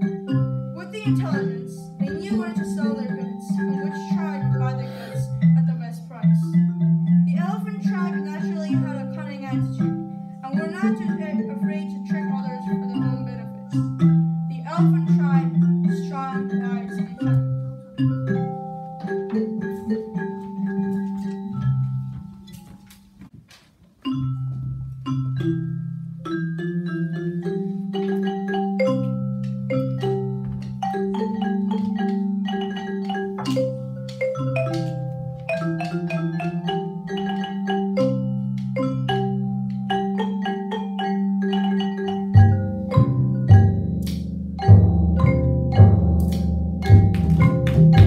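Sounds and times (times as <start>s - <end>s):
marimbas playing melody: 0.0s - 23.3s, 24.0s - 48.0s.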